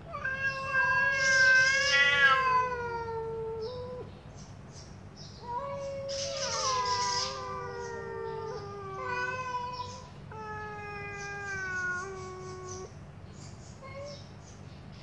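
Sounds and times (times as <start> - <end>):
cats yowling: 0.0 - 4.2, 5.3 - 13.0, 13.8 - 14.3.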